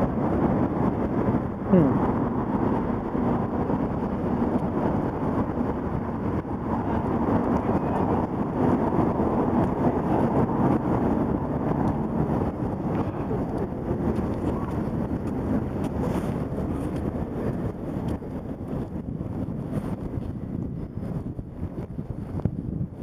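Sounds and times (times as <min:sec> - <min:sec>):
city traffic: 0:00.0 - 0:23.0
wind buffeting microphone: 0:00.0 - 0:23.0.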